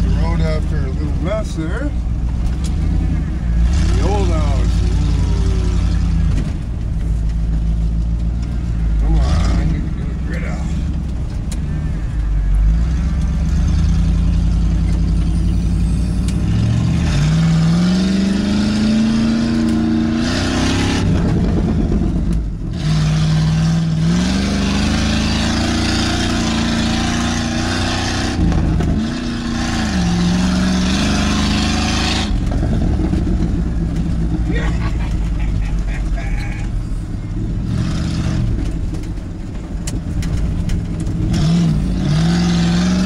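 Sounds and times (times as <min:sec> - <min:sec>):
truck engine revving: 0:00.0 - 0:43.0.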